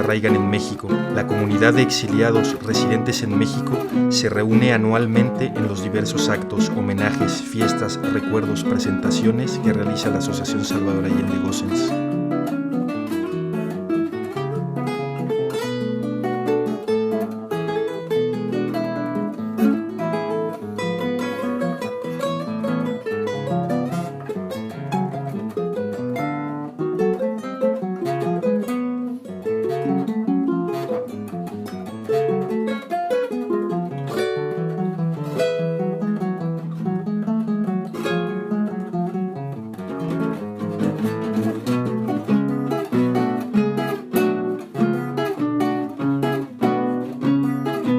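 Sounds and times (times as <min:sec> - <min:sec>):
acoustic guitar music: 0:00.0 - 0:47.9.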